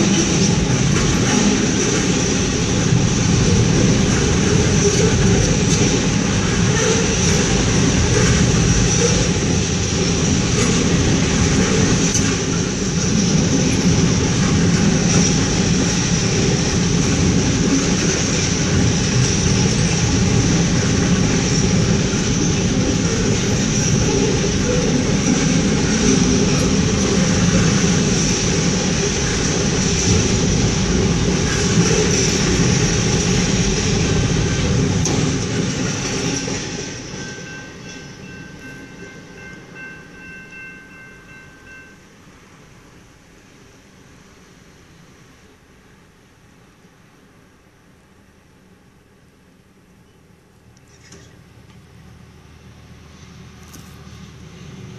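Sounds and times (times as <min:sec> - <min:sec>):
freight train wheels rumbling: 0:00.0 - 0:48.8, 0:50.7 - 0:54.9.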